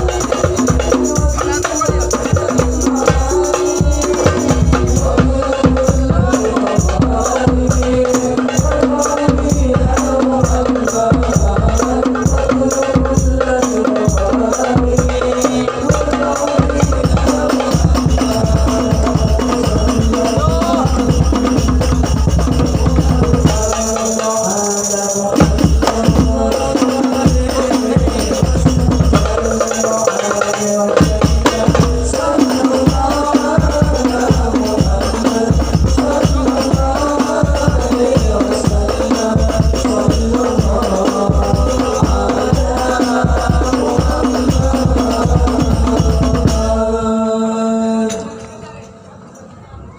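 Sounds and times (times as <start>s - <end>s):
drums and jingling percussion: 0.0s - 47.1s, 48.0s - 49.6s.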